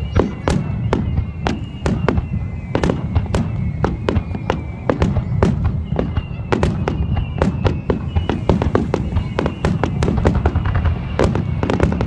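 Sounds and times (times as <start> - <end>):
fireworks sharp bangs: 0.0 - 12.0.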